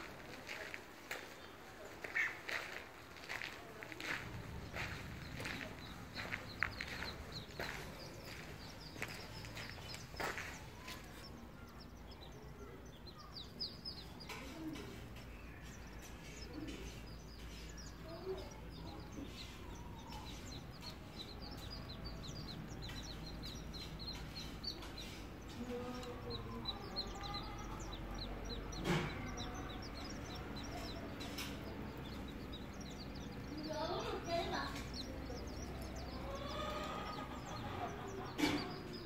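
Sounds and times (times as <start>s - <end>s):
ducklings peeping: 0.0s - 39.0s.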